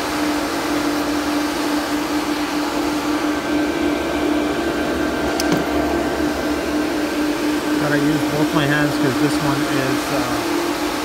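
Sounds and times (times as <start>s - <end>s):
cooling fans whirring: 0.0s - 11.0s.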